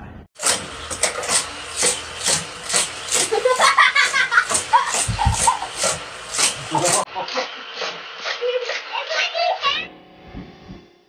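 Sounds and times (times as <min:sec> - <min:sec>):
toy race track rasping clatter: 0:00.4 - 0:09.8.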